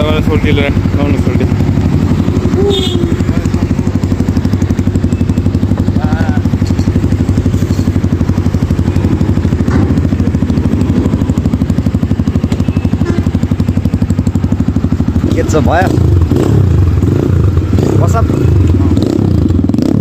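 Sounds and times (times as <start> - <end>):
dirt bike engine idling: 0.0 - 20.0.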